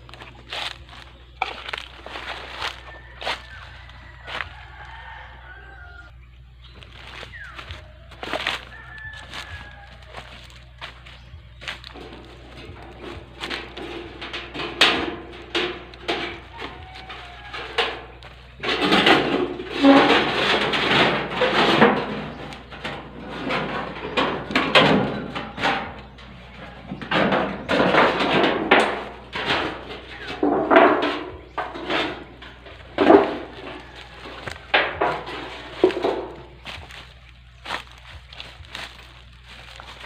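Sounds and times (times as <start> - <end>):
metal roofing sheet rattling: 0.0 - 5.2, 6.9 - 40.0.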